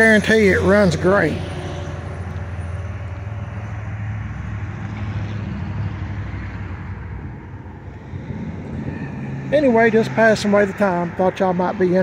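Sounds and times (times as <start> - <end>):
low rumble of motor vehicles: 0.0 - 12.0.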